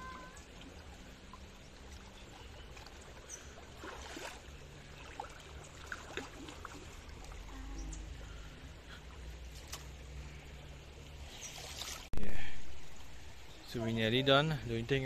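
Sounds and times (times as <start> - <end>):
river water sloshing and trickling: 0.0 - 14.8.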